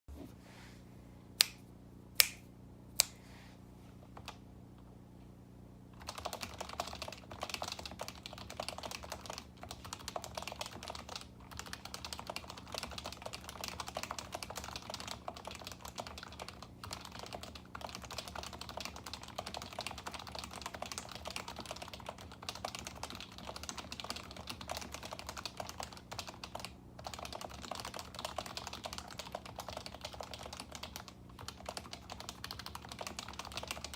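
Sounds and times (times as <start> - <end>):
faint steady hum: 0.1 - 33.9
fast typing on keyboard: 6.0 - 33.9.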